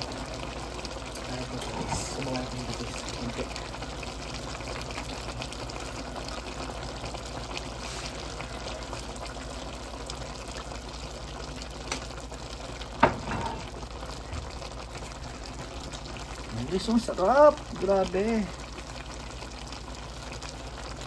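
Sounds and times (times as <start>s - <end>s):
stew simmering bubbling hiss: 0.0s - 21.0s.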